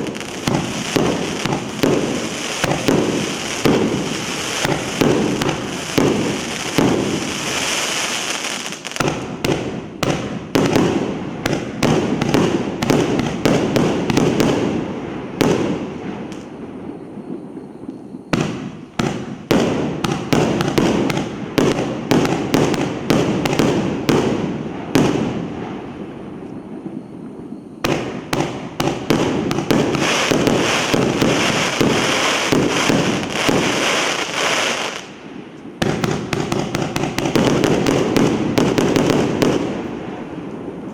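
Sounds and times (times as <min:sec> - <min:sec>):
firework aerial bursts: 0:00.0 - 0:16.6, 0:18.3 - 0:26.2, 0:27.3 - 0:40.9
firework crackling: 0:00.0 - 0:40.9.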